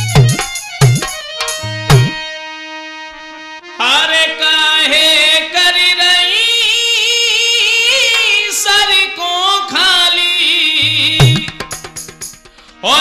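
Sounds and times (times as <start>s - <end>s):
instrumental backing: 0.0s - 13.0s.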